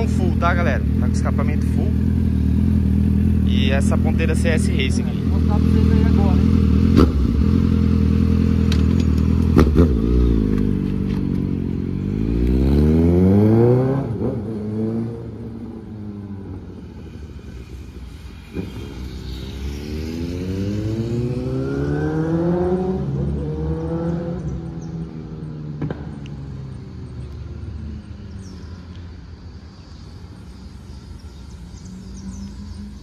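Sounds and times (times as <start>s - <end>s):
motorcycle engine accelerating: 0.0s - 28.8s.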